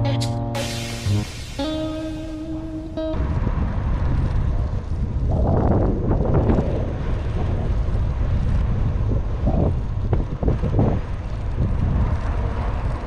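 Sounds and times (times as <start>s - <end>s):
steady low rumble: 0.0s - 13.0s
wind buffeting microphone: 1.4s - 13.0s.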